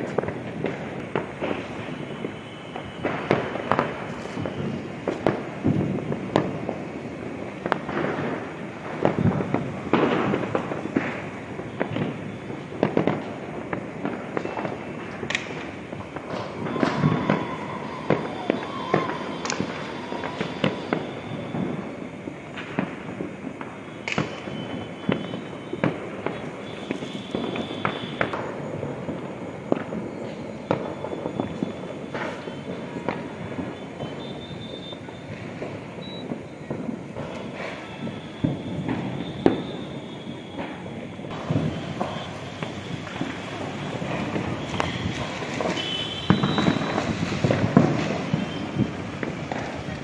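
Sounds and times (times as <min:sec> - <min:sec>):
distant fireworks din: 0:00.0 - 0:50.0
firecracker bangs: 0:00.0 - 0:50.0.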